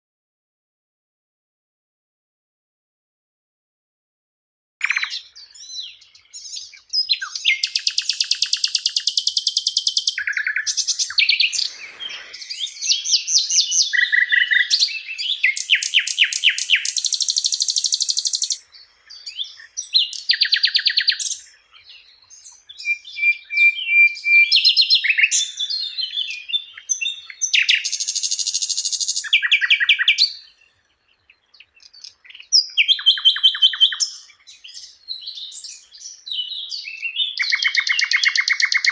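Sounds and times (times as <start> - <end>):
bird singing trills: 4.8 - 38.9.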